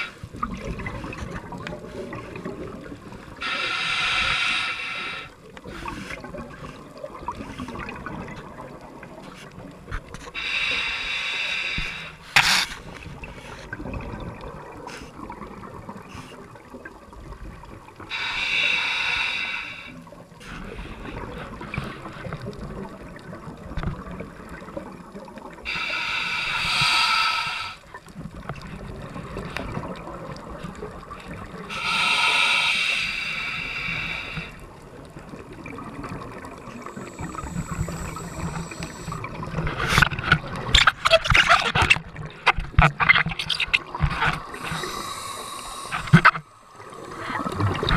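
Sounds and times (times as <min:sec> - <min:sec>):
crackling and splashing water: 0:00.0 - 0:47.9
underwater exhaled bubbles hissing: 0:00.0 - 0:47.9.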